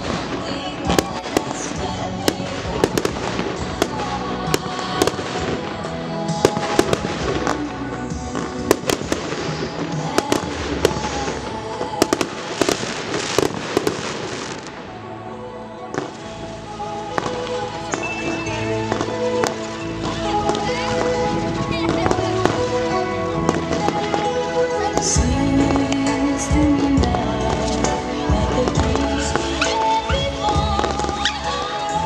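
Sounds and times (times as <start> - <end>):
fireworks bursting: 0.0 - 15.2, 15.8 - 32.0
music playing: 0.0 - 32.0.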